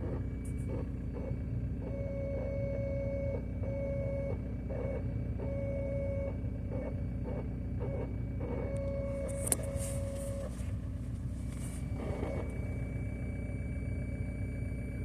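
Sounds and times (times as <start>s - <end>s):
car engine low rumble: 0.0s - 15.0s
fuel pump whine: 0.0s - 15.0s.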